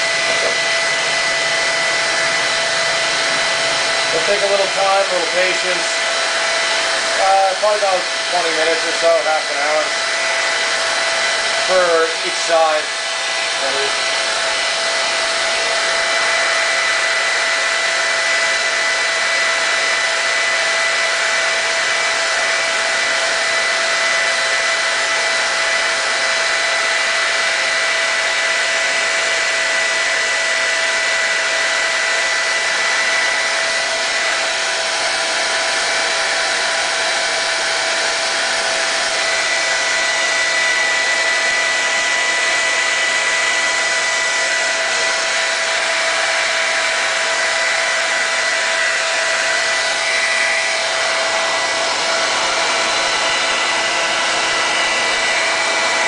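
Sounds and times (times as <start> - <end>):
hair dryer blowing with whine: 0.0 - 56.0.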